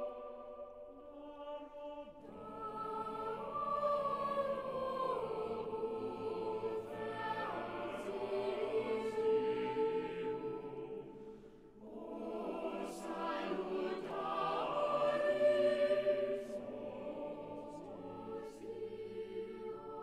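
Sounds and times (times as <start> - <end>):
voices singing held notes: 0.0 - 20.0.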